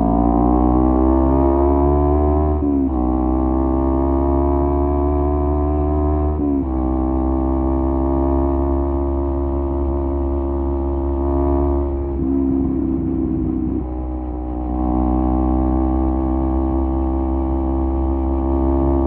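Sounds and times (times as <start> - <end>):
motorcycle engine at cruising revs: 0.0 - 19.0.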